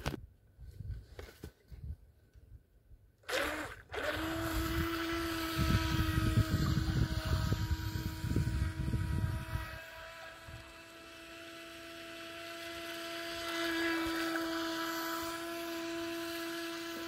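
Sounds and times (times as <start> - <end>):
electric motor whining: 3.3 - 17.0.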